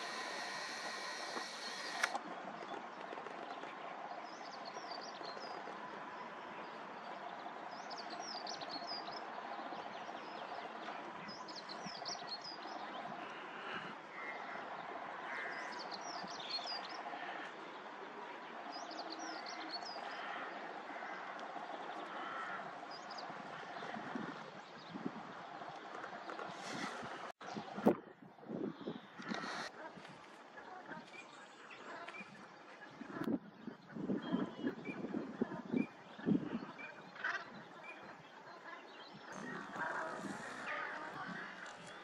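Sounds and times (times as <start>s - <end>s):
birds chirping: 0.0s - 27.9s, 28.5s - 42.0s
outdoor background noise: 0.0s - 42.0s.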